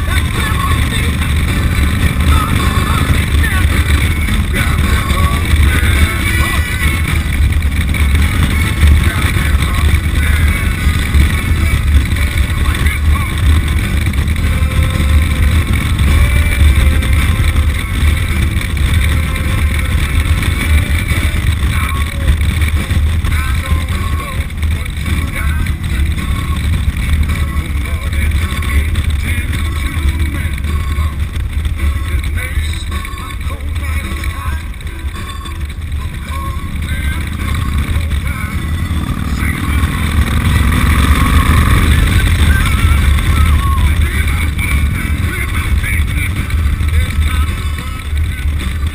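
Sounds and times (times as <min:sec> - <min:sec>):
motorcycle engine: 0:00.0 - 0:48.9.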